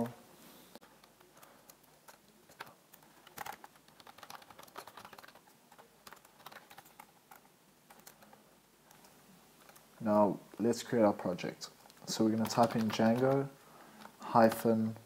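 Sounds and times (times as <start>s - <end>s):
keyboard typing: 0.8s - 9.9s, 11.7s - 15.0s.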